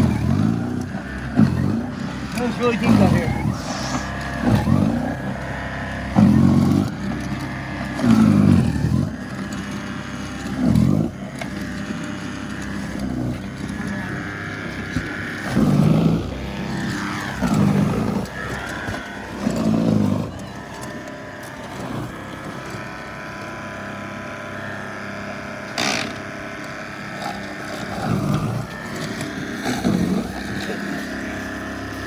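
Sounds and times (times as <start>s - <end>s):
snowblower engine running: 0.0s - 32.0s.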